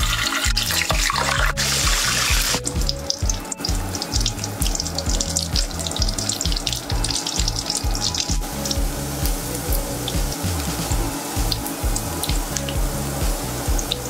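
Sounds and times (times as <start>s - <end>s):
background music with beat: 0.0s - 14.0s
sausages sizzling in hot oil: 0.0s - 14.0s.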